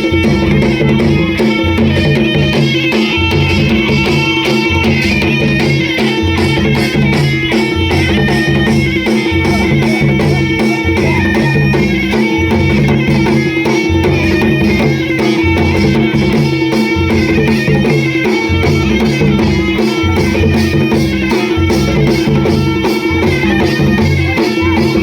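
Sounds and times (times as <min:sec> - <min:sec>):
held drone note: 0:00.0 - 0:25.0.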